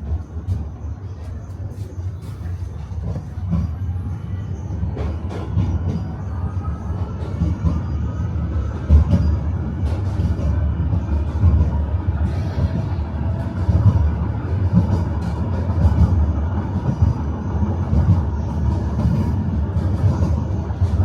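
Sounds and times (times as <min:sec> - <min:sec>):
tram wheels rumbling on rails: 0:00.0 - 0:21.0.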